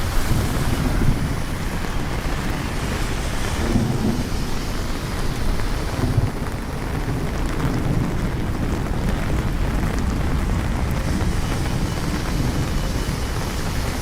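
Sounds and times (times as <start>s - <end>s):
low rumbling thunder: 0.0s - 14.0s
steady rain: 0.0s - 14.0s.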